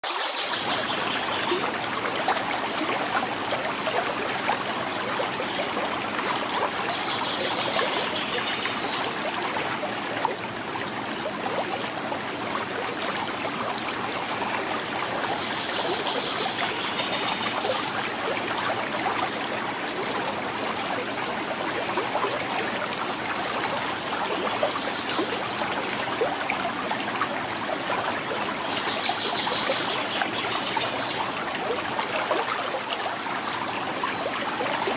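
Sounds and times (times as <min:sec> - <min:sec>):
river flowing: 0:00.0 - 0:34.9.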